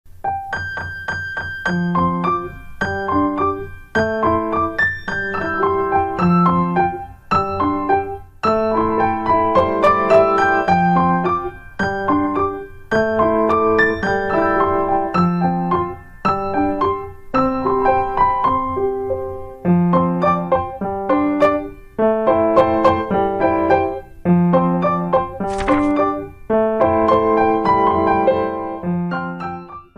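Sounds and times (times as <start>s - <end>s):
piano music: 0.2s - 29.9s.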